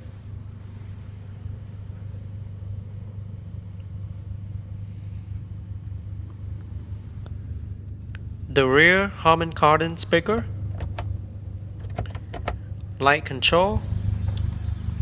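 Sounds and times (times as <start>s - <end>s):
car engine idling: 0.4s - 15.0s.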